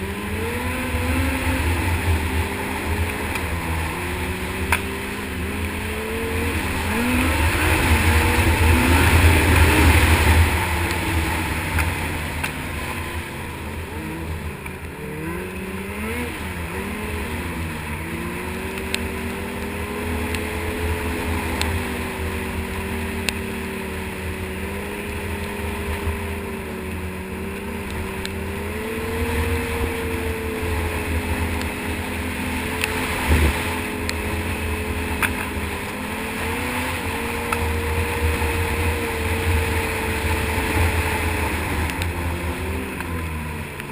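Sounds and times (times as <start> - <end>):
snowmobile engine revving: 0.0 - 43.9.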